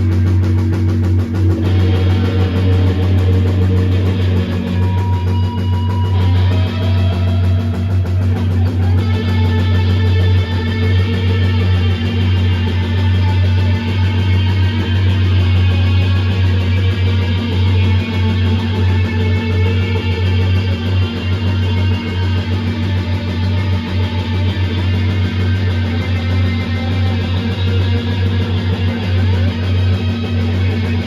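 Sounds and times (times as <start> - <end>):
electric guitar: 0.0 - 31.0
held low bass note: 0.0 - 31.0.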